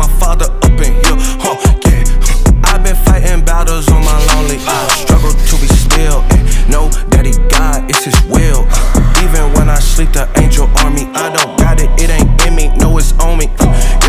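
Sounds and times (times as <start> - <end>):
hip hop music with heavy bass: 0.0 - 14.0
rapped vocal: 0.0 - 14.0.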